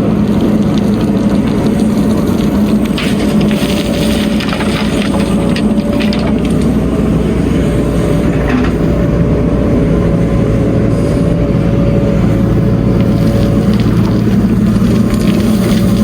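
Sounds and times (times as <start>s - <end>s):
diesel engine rumble: 0.0s - 16.0s
high machinery whine: 0.0s - 16.0s.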